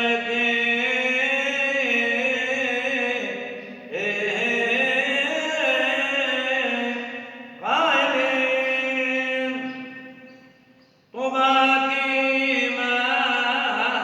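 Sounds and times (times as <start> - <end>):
man chanting a prayer: 0.0 - 10.5, 11.2 - 14.0.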